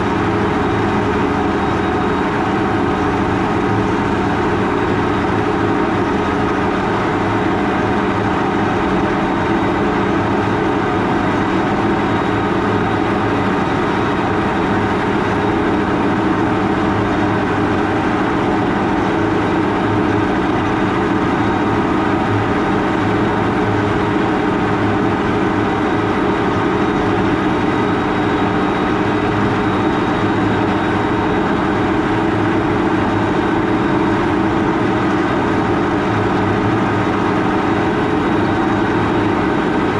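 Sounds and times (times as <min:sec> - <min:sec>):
tractor diesel engine drone: 0:00.0 - 0:39.9.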